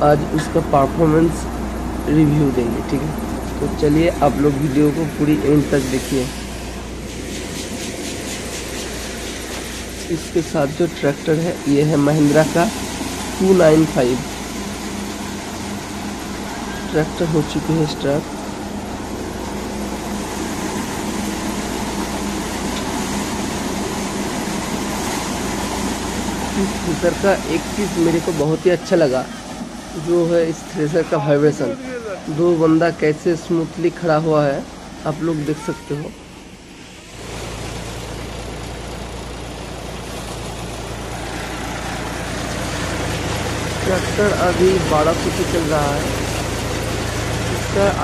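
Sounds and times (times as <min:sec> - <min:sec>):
thresher humming: 0:00.0 - 0:48.0
tractor engine running: 0:00.0 - 0:48.0.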